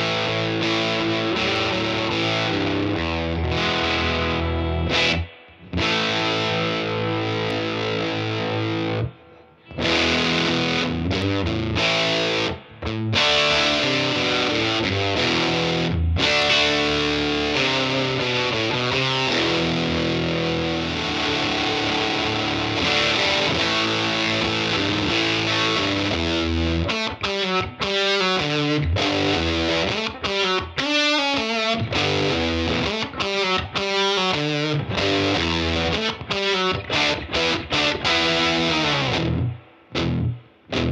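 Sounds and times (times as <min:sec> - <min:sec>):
overdriven electric guitar chord: 0:00.0 - 0:40.9.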